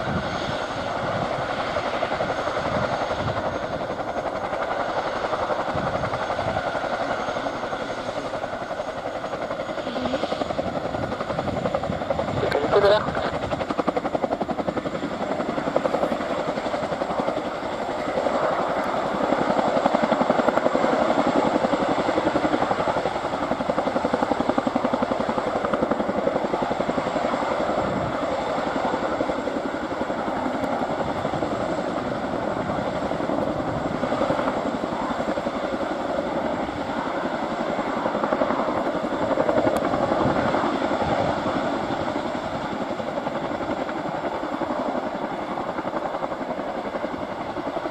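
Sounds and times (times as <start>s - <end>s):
helicopter rotors and engines: 0.0s - 47.9s.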